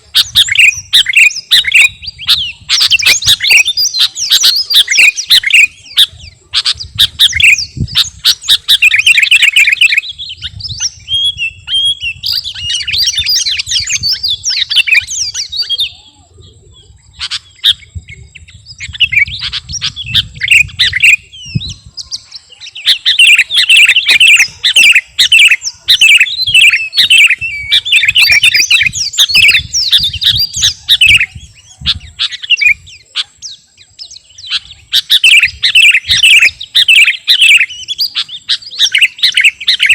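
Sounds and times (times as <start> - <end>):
bird singing chirping phrases: 0.0 - 39.9.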